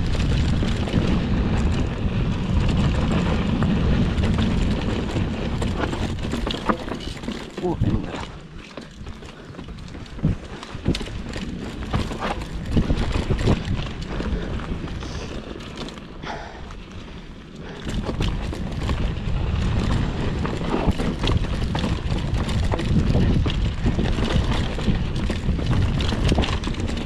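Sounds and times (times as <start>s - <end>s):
tyres rumbling over dirt and stones: 0.0s - 27.0s.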